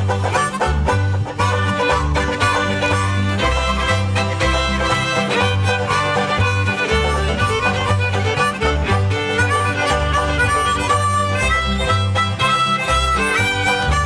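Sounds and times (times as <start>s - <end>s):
bouncing bass line: 0.0s - 14.0s
upbeat fiddle tune: 0.0s - 14.0s.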